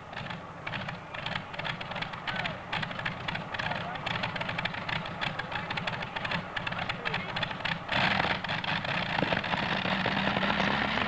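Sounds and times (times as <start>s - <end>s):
tractor engine crackling: 0.0s - 11.0s.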